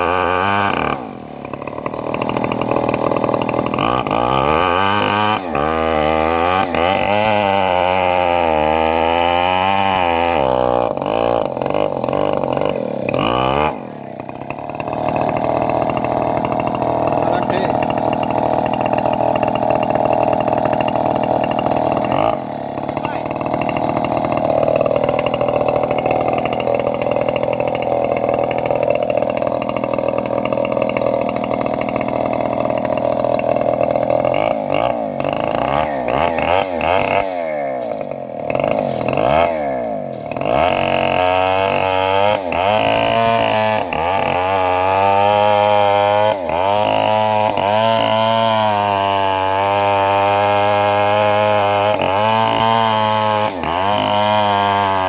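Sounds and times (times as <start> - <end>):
bandsaw sawing wood: 0.0 - 55.0.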